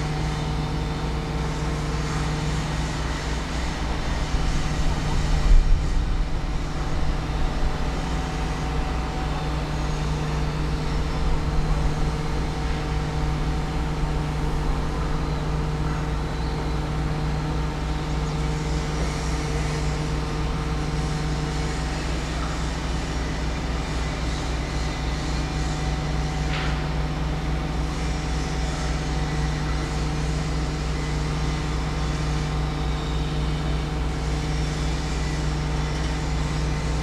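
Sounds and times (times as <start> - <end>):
low machinery hum: 0.0 - 37.0.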